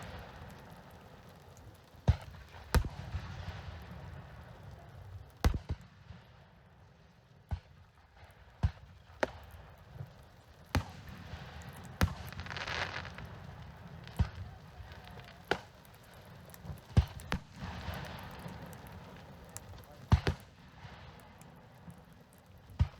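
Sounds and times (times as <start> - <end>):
firework bangs: 0.0 - 6.2, 8.6 - 22.9
hissing crackle of fireworks: 0.0 - 22.9.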